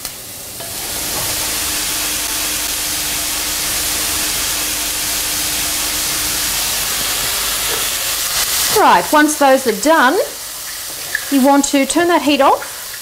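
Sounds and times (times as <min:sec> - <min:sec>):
mushrooms sizzling in hot oil: 0:00.0 - 0:13.0.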